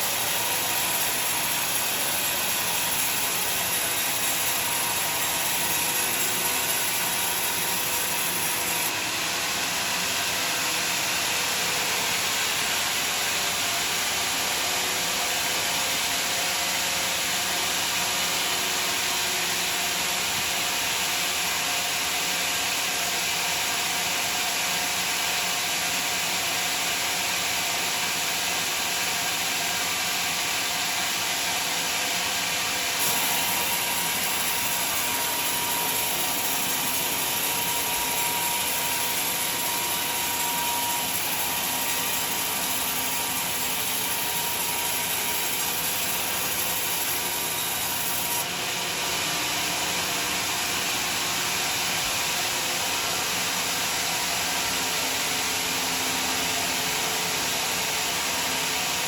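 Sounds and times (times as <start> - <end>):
bandsaw cutting a log: 0.0 - 59.0.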